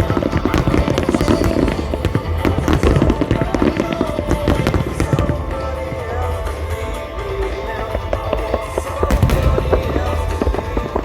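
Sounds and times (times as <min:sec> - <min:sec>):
fireworks bursting and crackling: 0:00.0 - 0:11.0
loud music: 0:00.0 - 0:11.0.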